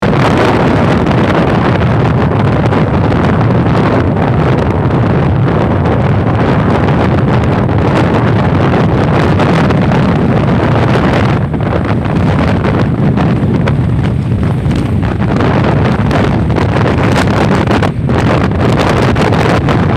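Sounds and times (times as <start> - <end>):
motorcycle engine: 0.0 - 19.9
road noise: 0.0 - 19.9
wind buffeting microphone: 0.0 - 19.9.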